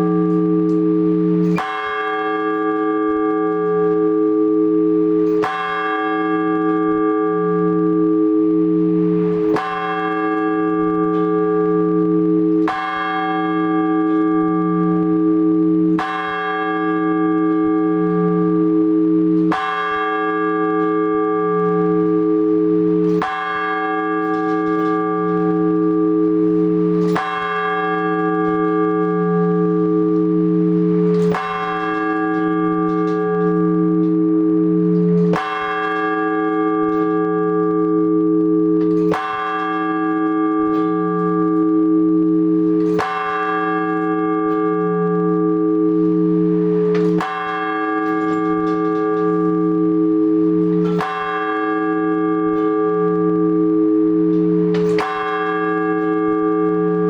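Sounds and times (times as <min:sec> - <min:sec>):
large church bell tolling: 0:00.0 - 0:57.0.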